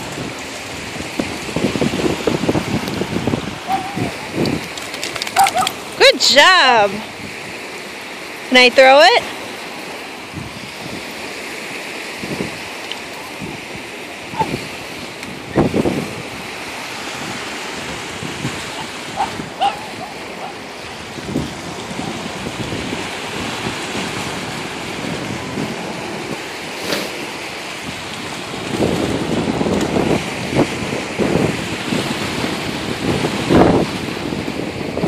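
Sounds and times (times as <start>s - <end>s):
small waves breaking on sand: 0.0s - 35.0s
wind buffeting microphone: 0.0s - 35.0s.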